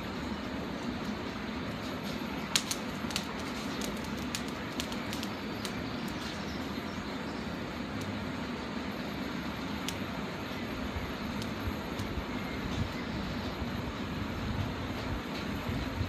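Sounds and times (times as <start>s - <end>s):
fat popping and crackling on grill: 0.0s - 16.0s
steady low hum: 0.0s - 16.0s.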